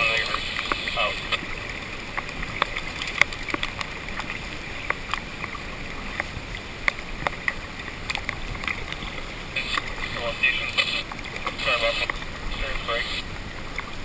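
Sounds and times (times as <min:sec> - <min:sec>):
steady muffled hiss: 0:00.0 - 0:02.4, 0:04.4 - 0:14.0.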